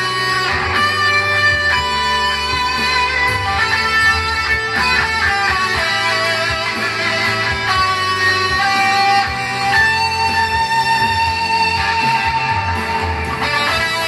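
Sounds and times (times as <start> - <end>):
electric guitar lead line: 0.0 - 14.0.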